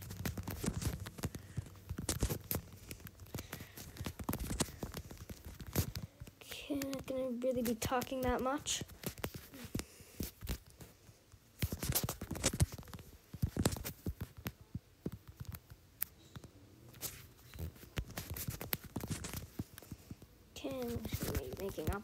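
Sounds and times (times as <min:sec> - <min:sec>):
fingertips tapping touchscreen: 0:00.0 - 0:10.7, 0:11.6 - 0:22.0.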